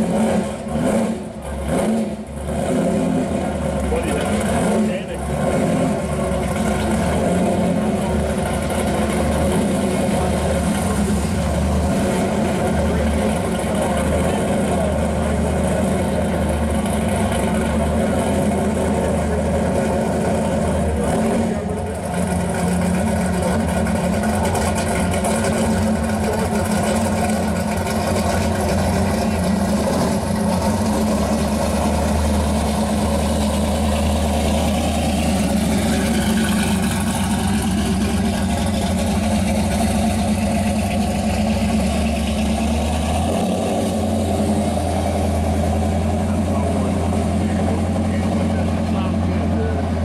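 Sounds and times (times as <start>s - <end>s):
car engine idling and pulling away: 0.0s - 50.0s.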